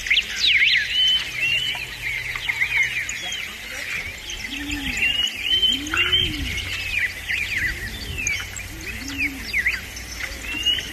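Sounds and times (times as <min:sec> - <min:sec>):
low cooing calls: 0:00.0 - 0:10.9
songbirds chirping: 0:00.0 - 0:10.9.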